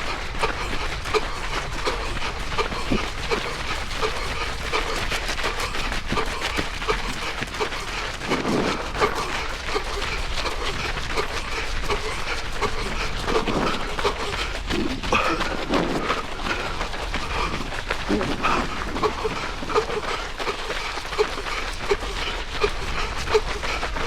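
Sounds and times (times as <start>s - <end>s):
footfalls on path: 0.0s - 12.1s, 12.7s - 21.3s
wind rumble on microphone: 0.0s - 20.0s
runner panting heavily: 0.0s - 24.0s.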